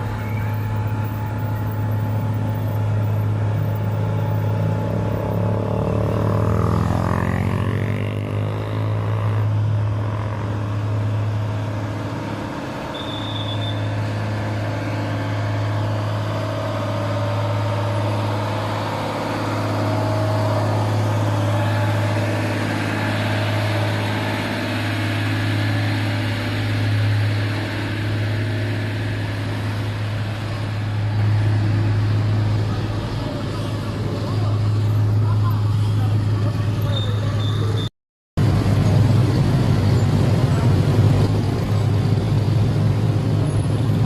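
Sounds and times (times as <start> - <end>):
diesel truck engine running: 0.0 - 37.8, 38.4 - 44.0.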